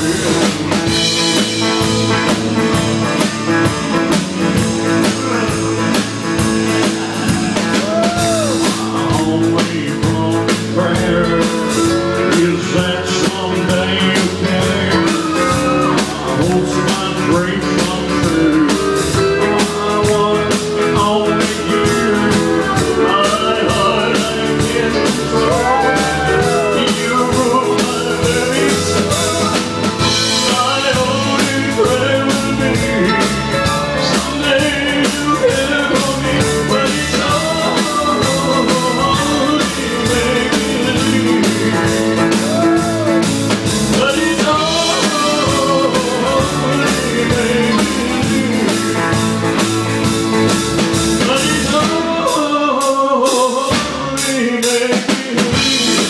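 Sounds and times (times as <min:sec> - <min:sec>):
electric guitars: 0:00.0 - 0:52.7, 0:55.0 - 0:56.0
bass guitar: 0:00.0 - 0:56.0
drum kit: 0:00.0 - 0:56.0
person singing: 0:00.0 - 0:56.0.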